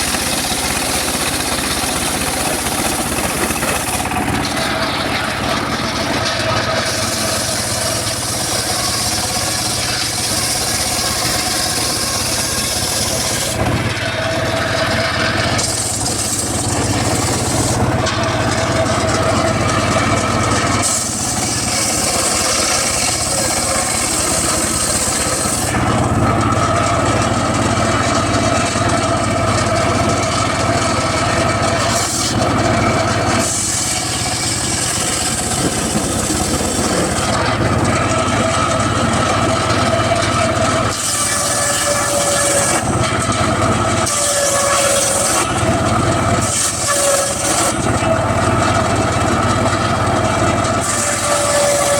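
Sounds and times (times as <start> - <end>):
circular saw humming: 0.0 - 51.9
saw blade cutting wood: 0.0 - 51.9.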